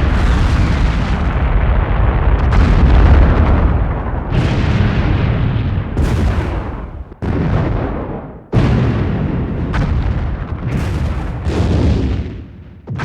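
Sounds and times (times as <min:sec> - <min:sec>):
explosions with deep rumbling: 0:00.0 - 0:13.0.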